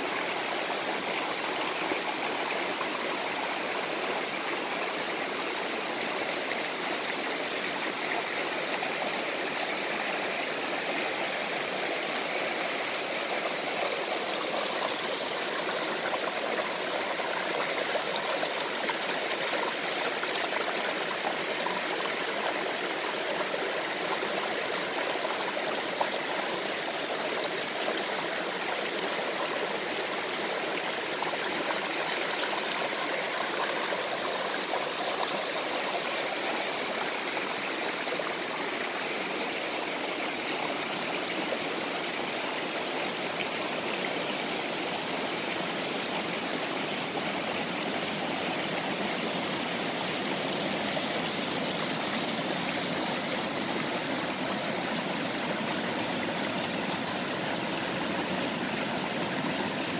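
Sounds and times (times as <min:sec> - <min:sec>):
stream and waterfall flowing: 0:00.0 - 0:59.9.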